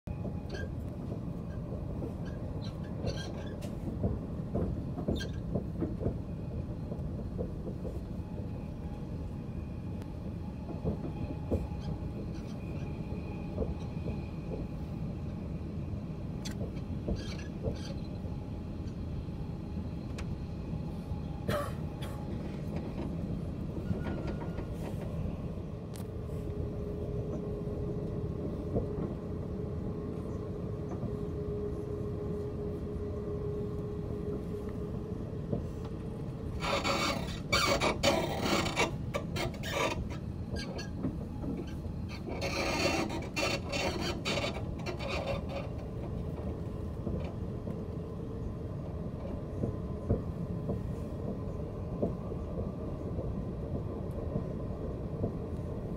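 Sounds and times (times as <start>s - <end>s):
train rumble inside carriage: 0.0s - 55.9s.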